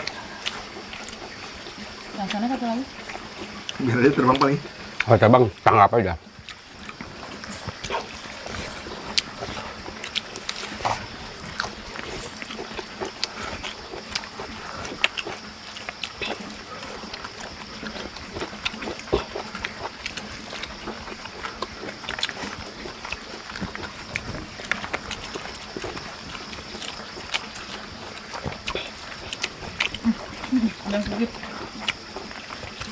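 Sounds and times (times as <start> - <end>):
people chewing and lip smacking: 0.0 - 32.9.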